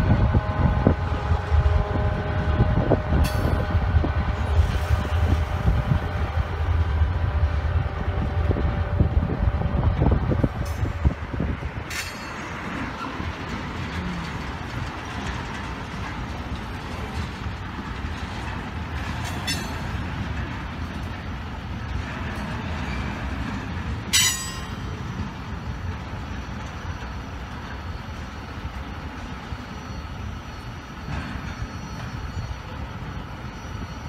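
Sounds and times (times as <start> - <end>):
train wheels rumbling on track: 0.0 - 34.0
train car clanks: 2.6 - 7.0, 9.8 - 34.0.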